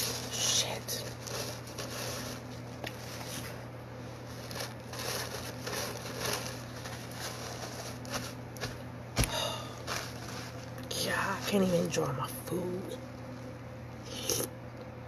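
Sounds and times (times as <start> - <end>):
paper napkin rustling: 0.0 - 12.4.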